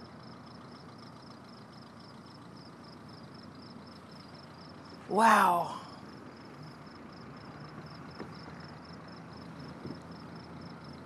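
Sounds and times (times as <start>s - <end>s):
crickets chirping: 0.0s - 11.0s
idling vehicle hum: 0.0s - 11.0s.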